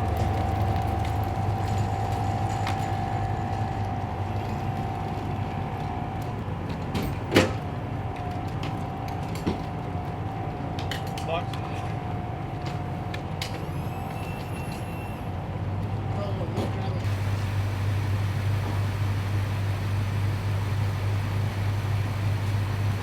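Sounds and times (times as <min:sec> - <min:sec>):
vehicle engine idling: 0:00.0 - 0:14.4, 0:15.3 - 0:23.0.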